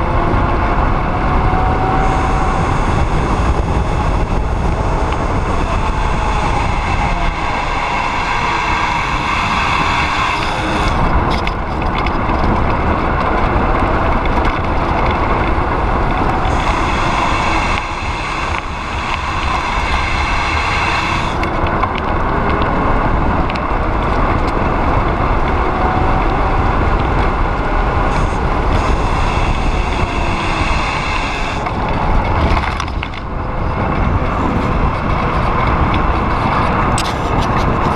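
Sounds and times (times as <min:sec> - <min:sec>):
bicycle tyres rolling on asphalt: 0:00.0 - 0:37.9
wind rushing over microphone: 0:00.0 - 0:37.9.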